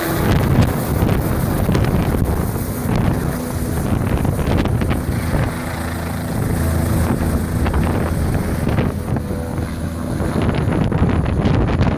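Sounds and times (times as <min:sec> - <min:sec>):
helicopter flying overhead: 0:00.0 - 0:11.9
wind noise on microphone: 0:00.0 - 0:11.9.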